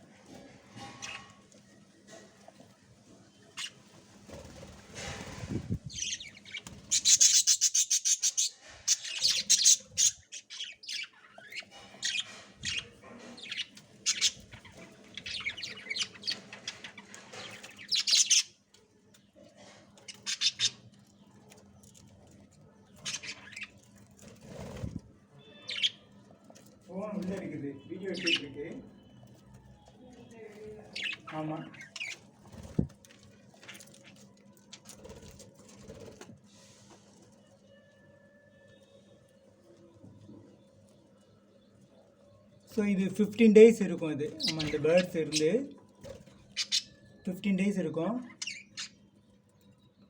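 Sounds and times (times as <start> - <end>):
parakeet chicks chirping: 3.3 - 19.2, 19.9 - 36.1, 40.7 - 50.0.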